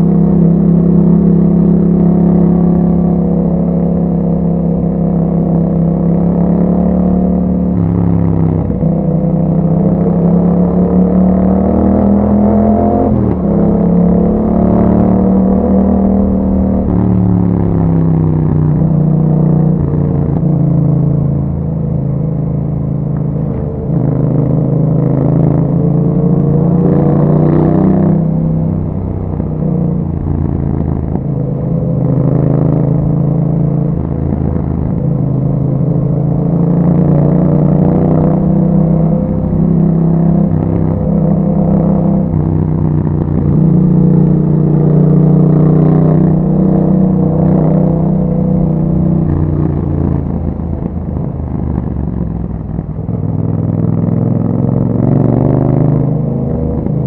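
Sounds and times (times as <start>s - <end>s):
motorcycle engine revving while riding: 0.0s - 57.0s.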